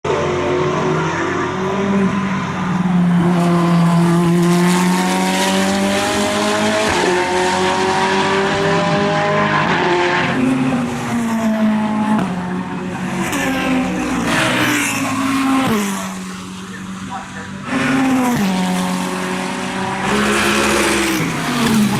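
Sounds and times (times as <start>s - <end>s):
race car engine revving: 0.1s - 21.9s.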